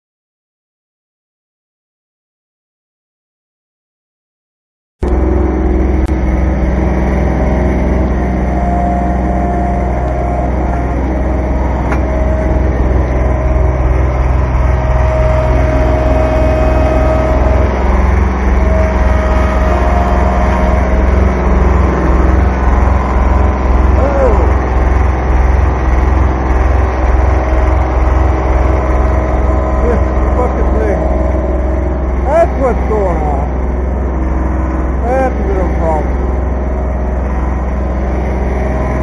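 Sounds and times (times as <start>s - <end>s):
high whine: 5.0s - 39.0s
tractor diesel engine running: 5.0s - 39.0s.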